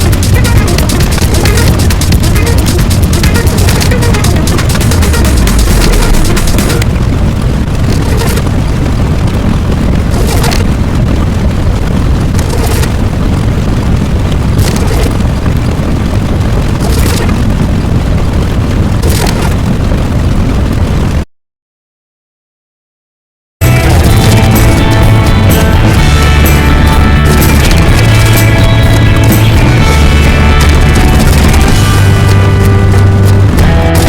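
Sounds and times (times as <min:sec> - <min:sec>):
deep continuous rumble: 0:00.0 - 0:21.2, 0:23.6 - 0:34.0.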